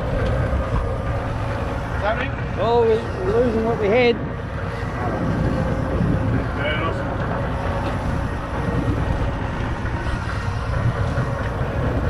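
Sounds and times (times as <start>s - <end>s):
boat engine running: 0.0s - 12.0s
water noise: 0.0s - 12.0s
wind: 0.0s - 12.0s.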